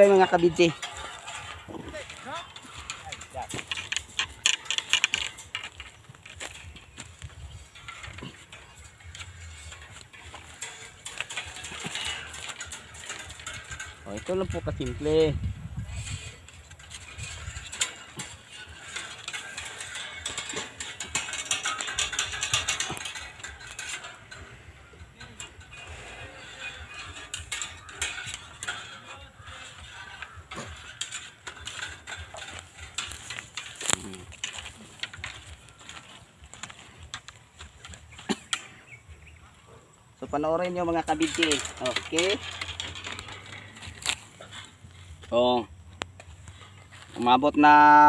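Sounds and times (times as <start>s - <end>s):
tie wire twisting on bamboo stake: 0.0s - 48.0s.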